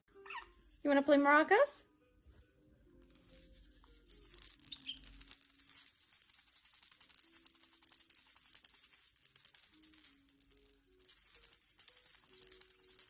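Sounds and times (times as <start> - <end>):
maraca rattling: 0.1 - 13.0.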